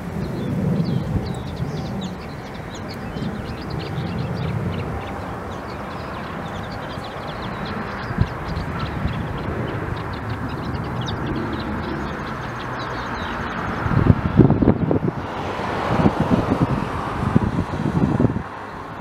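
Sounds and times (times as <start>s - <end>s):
small birds chirping: 0.0s - 15.3s
distant jet engine rumble: 0.0s - 19.0s.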